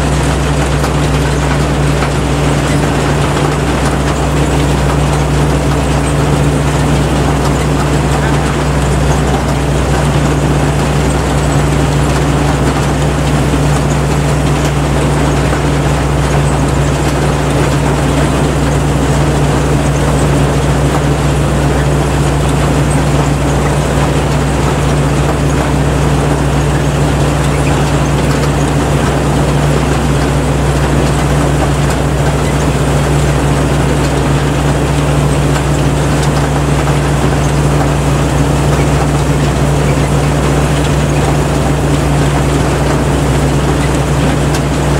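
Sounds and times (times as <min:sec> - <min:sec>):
combine harvester engine drone: 0:00.0 - 0:44.9.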